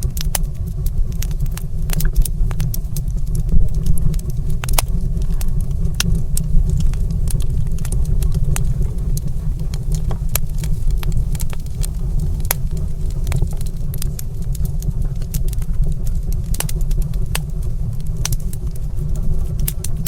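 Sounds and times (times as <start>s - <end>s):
low rumble of burning fire: 0.0s - 20.0s
wood fire snapping and popping: 0.0s - 20.0s.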